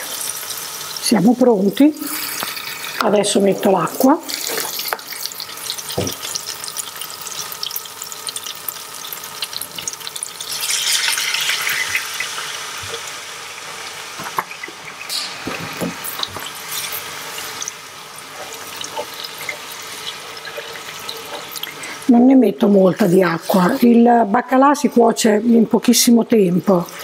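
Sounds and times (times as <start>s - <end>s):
hot oil hissing and sizzling: 0.0s - 25.0s.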